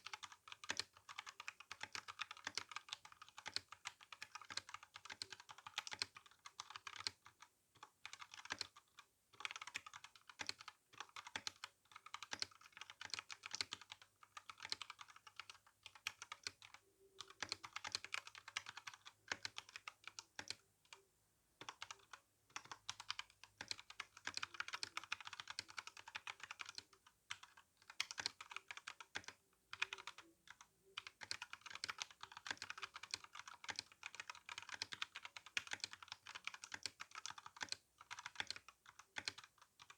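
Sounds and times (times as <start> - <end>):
mechanical keyboard typing: 0.0 - 20.6, 21.6 - 39.9.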